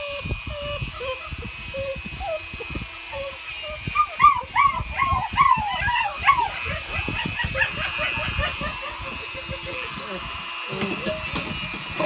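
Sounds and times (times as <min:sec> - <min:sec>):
puppy yelping and whining: 0:00.0 - 0:10.2.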